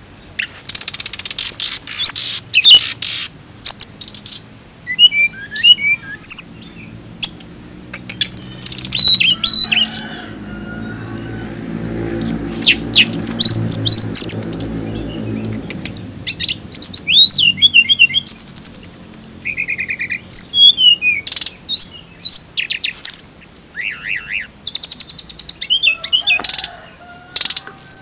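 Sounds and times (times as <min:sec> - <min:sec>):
bird singing trills and whistles: 0:00.0 - 0:10.4, 0:11.1 - 0:28.0.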